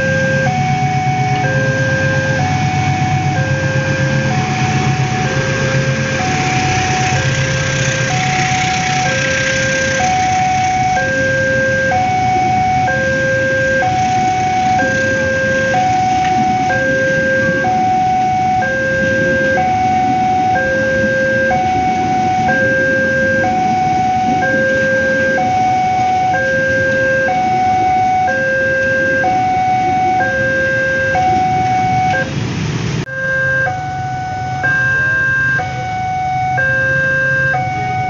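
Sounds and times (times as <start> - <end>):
level crossing two-tone alarm: 0.0 - 32.4, 33.0 - 38.0
passing train rumble: 0.0 - 38.0.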